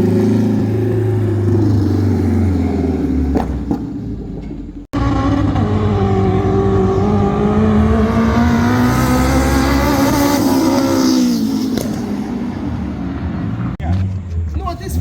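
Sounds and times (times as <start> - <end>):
car engine pulling under load: 0.0 - 14.5
tuned car engine running hard: 0.0 - 14.5.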